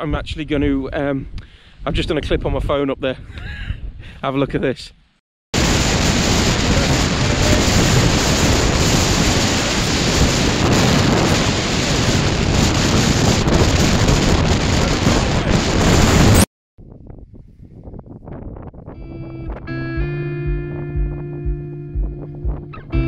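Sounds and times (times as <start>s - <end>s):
wind buffeting microphone: 0.0s - 4.8s, 5.6s - 23.0s.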